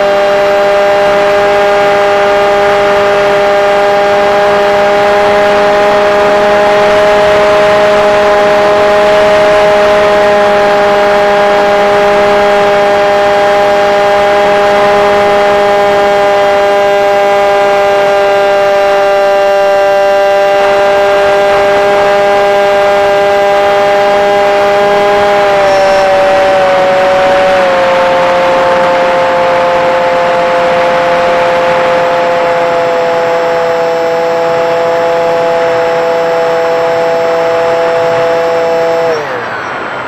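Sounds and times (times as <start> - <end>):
model airplane motor whining: 0.0 - 40.0.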